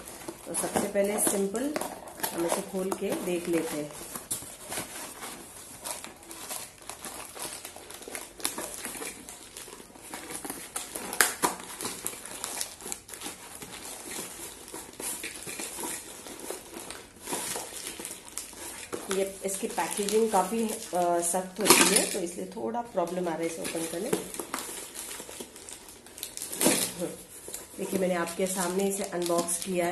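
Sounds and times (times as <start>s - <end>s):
cardboard and plastic crinkling: 0.0s - 29.9s
packing tape tearing: 0.0s - 29.9s.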